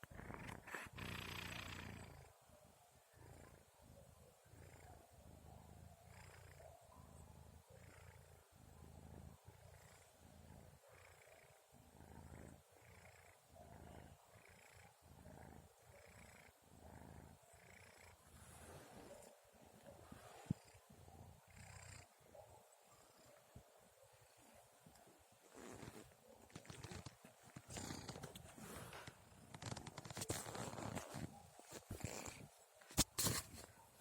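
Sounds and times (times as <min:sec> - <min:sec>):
kitten snoring softly: 0:00.0 - 0:02.4, 0:03.1 - 0:33.8.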